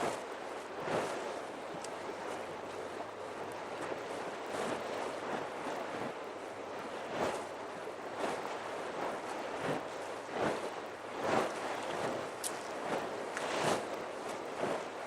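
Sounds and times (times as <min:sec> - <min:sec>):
sea waves washing: 0:00.0 - 0:15.0
wind on microphone: 0:00.0 - 0:15.0.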